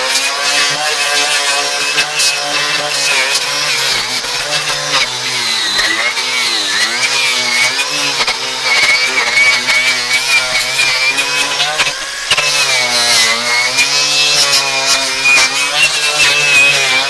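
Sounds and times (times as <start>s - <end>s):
angle grinder motor whine: 0.0s - 17.0s
wire brush scrubbing metal: 0.1s - 17.0s.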